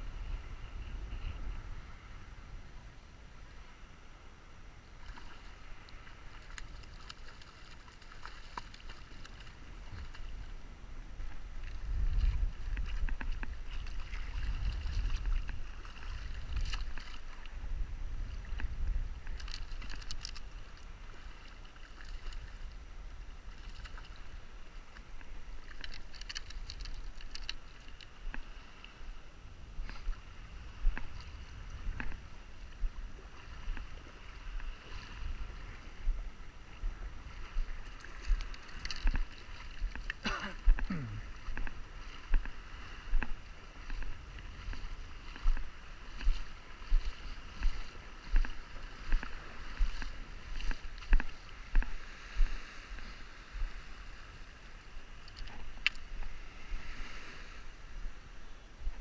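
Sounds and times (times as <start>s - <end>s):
wind rumble on microphone: 0.0s - 59.0s
water lapping and splashing: 4.8s - 59.0s.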